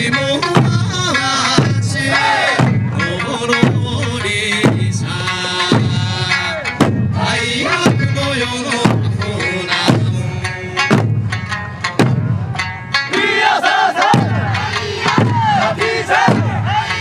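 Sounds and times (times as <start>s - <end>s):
folk singer singing: 0.0s - 11.0s, 13.1s - 17.0s
drums beating in unison: 0.0s - 17.0s.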